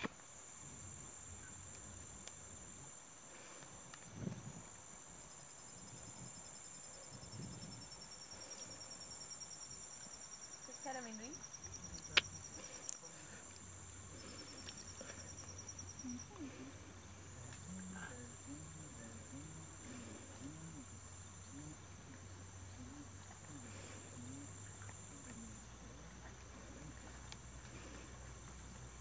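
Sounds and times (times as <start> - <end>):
insect pulsed trill: 0.0 - 29.0
insects buzzing: 0.0 - 29.0.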